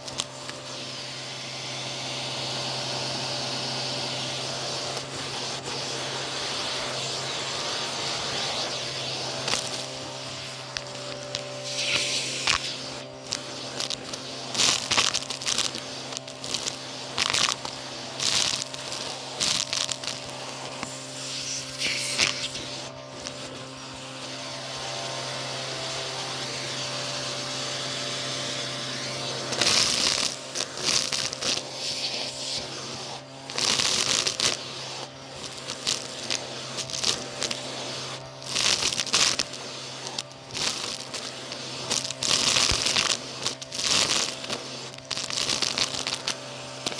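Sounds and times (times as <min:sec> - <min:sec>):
vacuum cleaner humming: 0:00.0 - 0:46.9.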